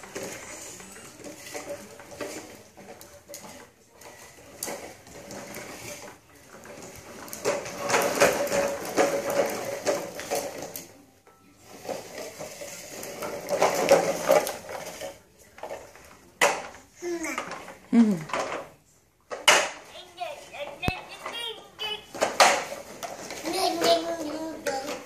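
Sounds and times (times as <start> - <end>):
toy wheels rattling over tile: 0.0 - 11.0, 11.6 - 18.7, 19.3 - 25.0.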